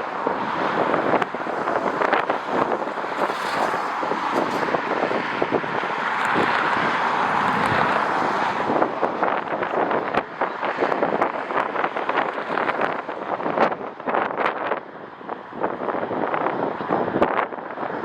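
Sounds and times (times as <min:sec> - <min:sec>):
gusty wind on microphone: 0:00.0 - 0:18.0.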